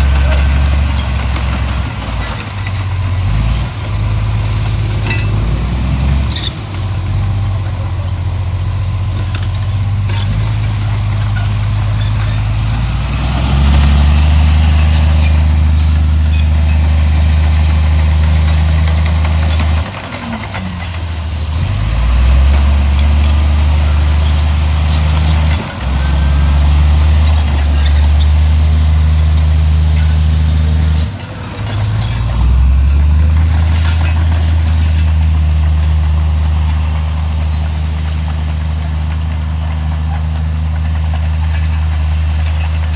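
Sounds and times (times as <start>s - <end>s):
bulldozer diesel engine under load: 0.0s - 42.9s.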